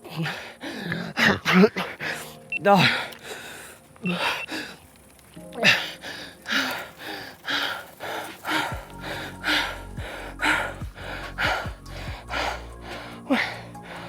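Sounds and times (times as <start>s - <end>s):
man breathing hard and gasping: 0.0s - 5.0s, 5.6s - 14.0s
background music: 0.0s - 14.0s.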